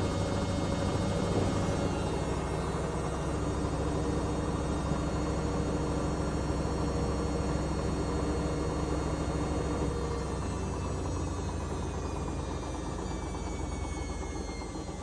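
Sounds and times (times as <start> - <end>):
washing machine running: 0.0 - 15.0
washing machine steady tones: 0.0 - 15.0.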